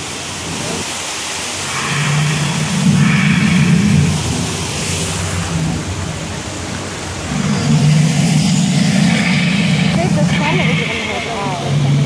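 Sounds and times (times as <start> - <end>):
waterfall splashing into pool: 0.0 - 12.0
low hum: 1.5 - 12.0.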